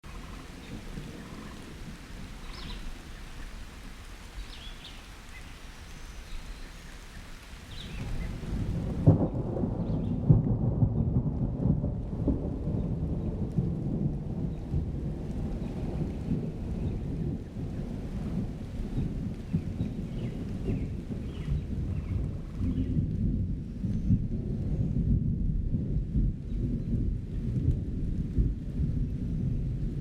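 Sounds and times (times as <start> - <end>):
thunder rumbling: 0.0 - 4.9, 7.6 - 30.0
steady rain: 0.0 - 30.0.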